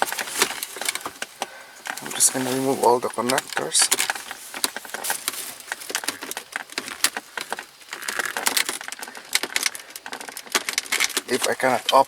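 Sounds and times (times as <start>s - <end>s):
plastic clicks and knocks: 0.0s - 11.6s.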